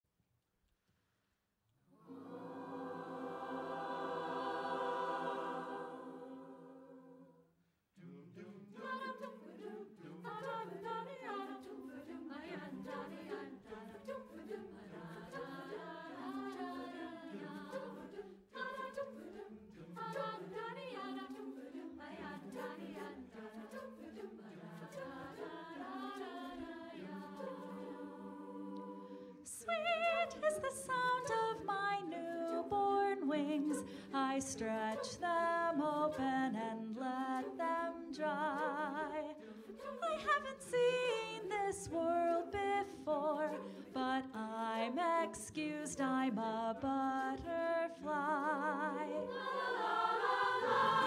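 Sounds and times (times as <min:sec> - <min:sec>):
choir singing without words: 0:01.9 - 0:51.0.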